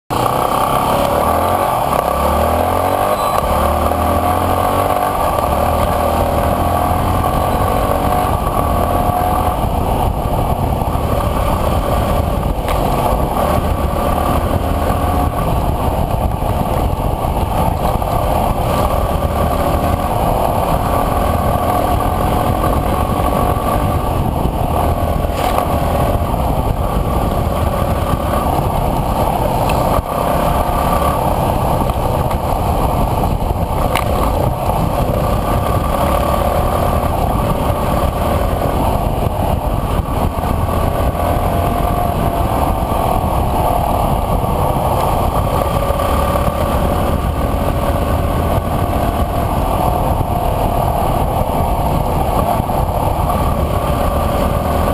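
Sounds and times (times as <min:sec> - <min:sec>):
dirt bike engine revving: 0:00.1 - 0:54.9.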